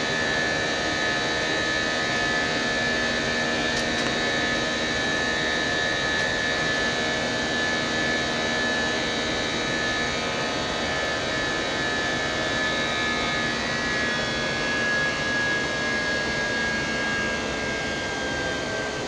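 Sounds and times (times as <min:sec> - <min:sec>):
jet engine drone in cabin: 0:00.0 - 0:19.0.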